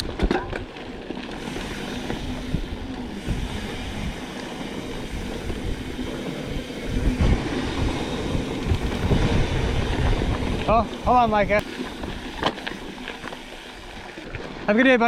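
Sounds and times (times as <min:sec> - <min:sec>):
bike knocks and rattles: 0:00.0 - 0:13.7
bike tyre rumble on dirt: 0:00.0 - 0:15.0.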